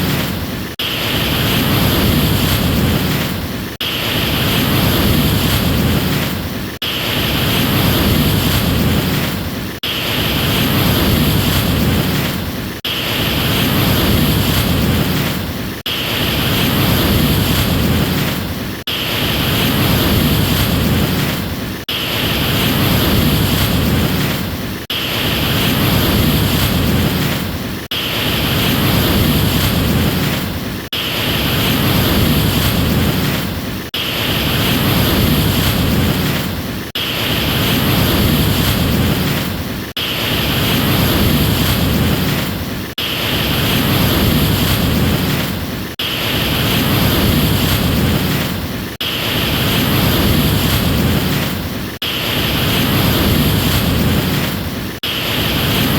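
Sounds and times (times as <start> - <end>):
ocean waves washing: 0.0 - 55.9.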